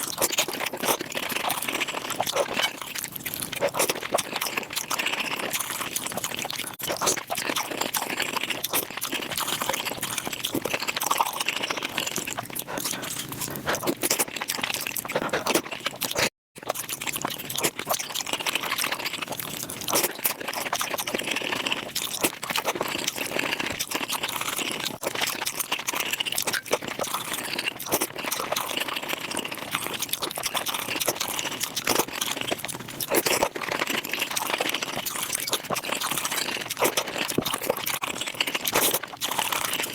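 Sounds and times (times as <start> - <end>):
rapid chewing and crunching: 0.0 - 39.9.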